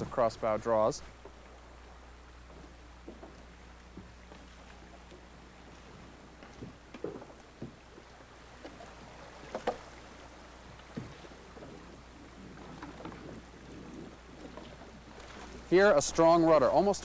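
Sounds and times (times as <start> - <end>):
faint steady hiss: 0.0 - 17.0
paddle strokes splashing: 0.0 - 17.0.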